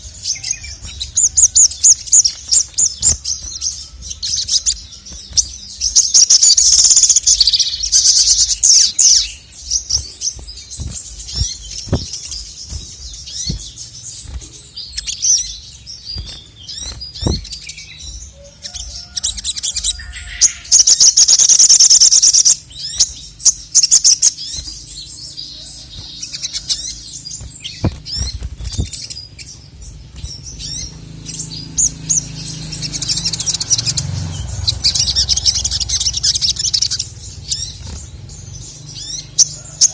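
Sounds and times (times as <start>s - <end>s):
bird high-pitched trilling: 0.0s - 39.9s
bird sharp chips: 0.0s - 39.9s.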